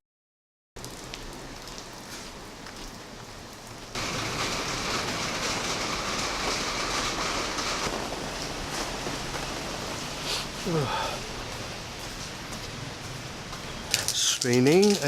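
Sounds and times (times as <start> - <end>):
rain falling: 0.8 - 15.0.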